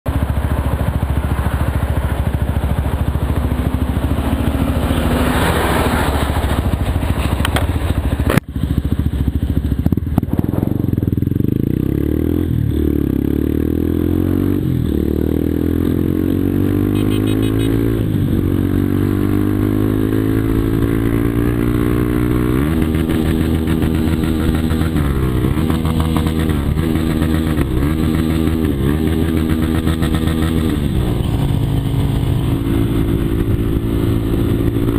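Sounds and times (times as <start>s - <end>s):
motorcycle engines running: 0.1s - 34.9s.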